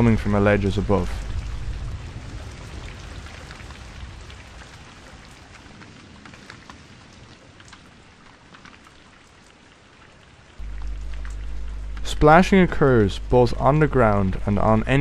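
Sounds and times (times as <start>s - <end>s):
rain hiss: 0.0s - 15.0s
raindrops striking a hard surface: 0.0s - 15.0s.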